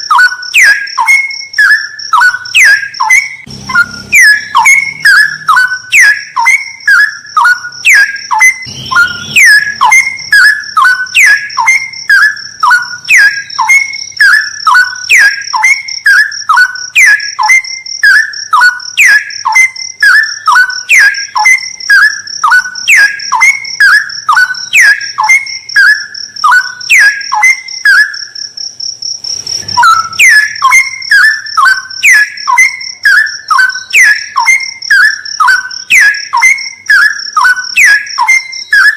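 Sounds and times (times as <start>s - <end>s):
steady high-pitched thin tone: 0.0s - 28.8s, 29.4s - 38.9s
bird singing falling whistled notes: 0.1s - 28.2s, 29.4s - 38.9s.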